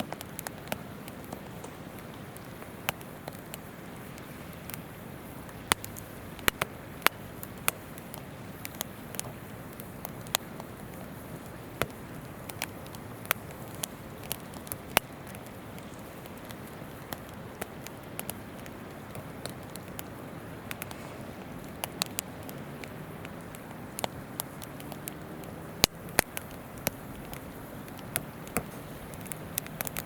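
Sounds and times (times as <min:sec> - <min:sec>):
campfire crackling and popping: 0:00.0 - 0:30.0
river flowing: 0:00.0 - 0:30.0.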